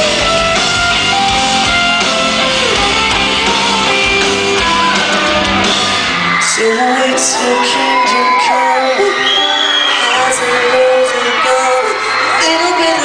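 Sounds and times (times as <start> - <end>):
audience screaming: 0.0 - 13.0
live pop-rock band: 0.0 - 13.0
person singing: 1.2 - 13.0.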